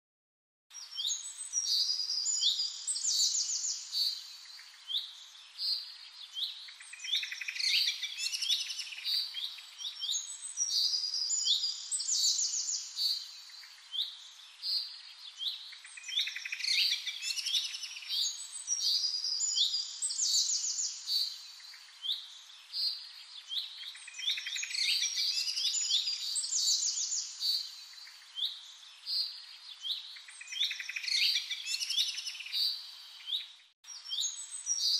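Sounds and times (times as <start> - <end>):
songbirds chirping and twittering: 0.7 - 34.9.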